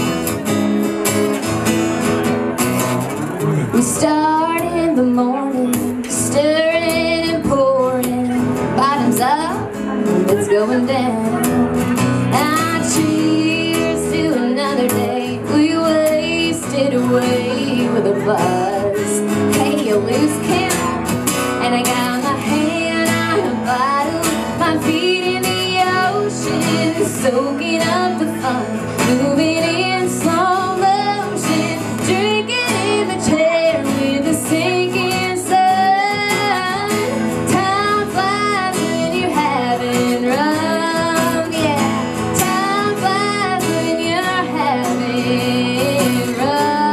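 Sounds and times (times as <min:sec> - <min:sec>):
acoustic guitar strumming: 0:00.0 - 0:46.9
woman singing country song: 0:03.6 - 0:46.9.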